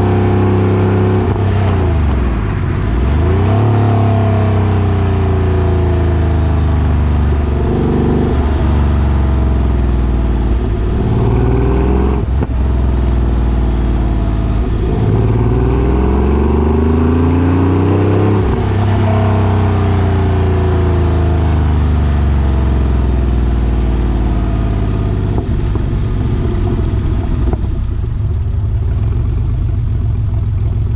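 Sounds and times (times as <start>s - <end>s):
car engine revving: 0.0s - 30.7s.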